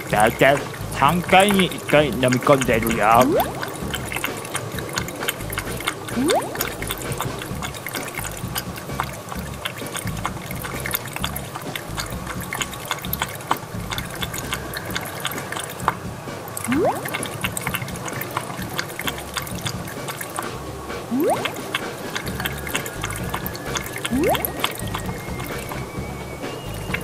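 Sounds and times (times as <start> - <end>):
cat lapping water: 0.0 - 27.0
cat swallowing: 0.0 - 27.0.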